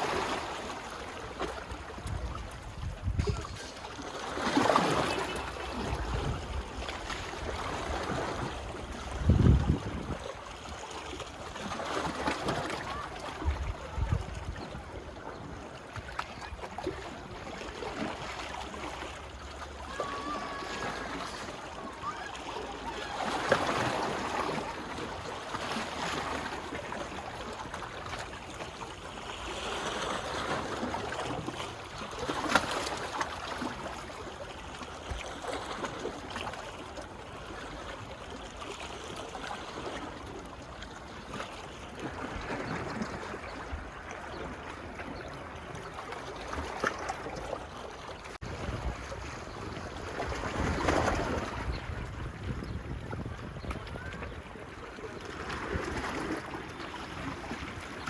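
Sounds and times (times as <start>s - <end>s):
small waves washing on beach: 0.0s - 58.0s.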